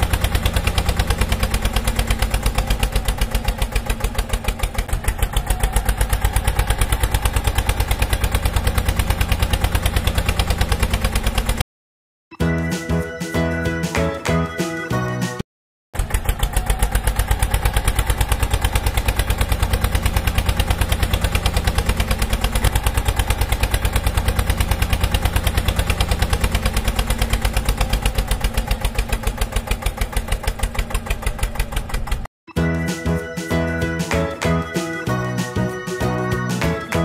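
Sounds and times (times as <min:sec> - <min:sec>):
tractor engine idling: 0:00.0 - 0:11.6, 0:16.0 - 0:37.0.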